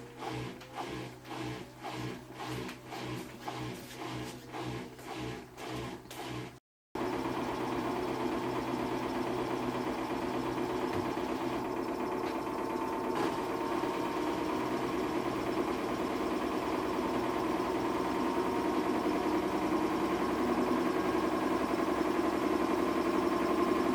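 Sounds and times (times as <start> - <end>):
washing machine whirring: 0.0 - 23.9.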